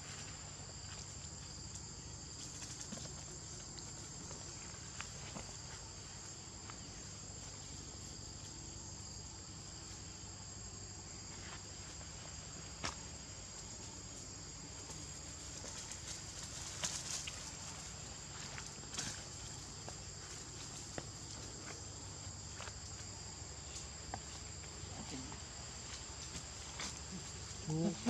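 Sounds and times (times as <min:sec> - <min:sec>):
shrill insect chorus: 0:00.0 - 0:28.0.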